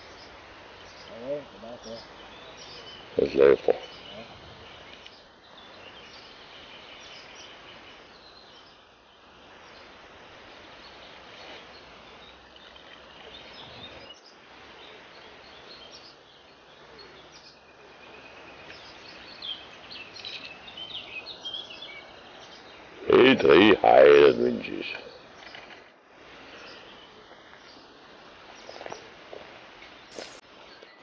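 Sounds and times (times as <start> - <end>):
songbirds chirping and singing: 0.0 - 29.2
faint outdoor hiss: 0.0 - 31.0.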